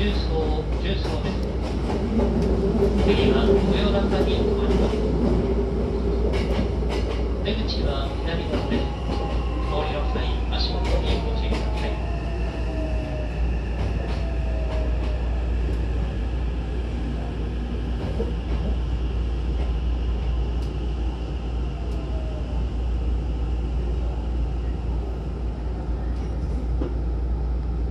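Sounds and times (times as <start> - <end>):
train low rumble: 0.0 - 27.9.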